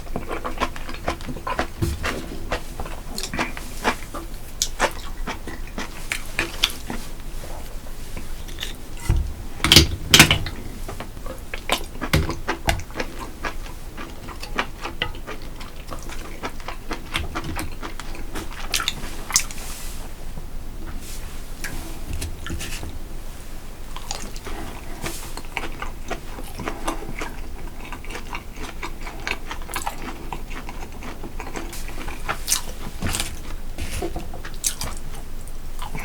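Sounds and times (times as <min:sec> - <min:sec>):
chewing: 0:00.0 - 0:09.1, 0:10.4 - 0:19.7, 0:23.9 - 0:36.0.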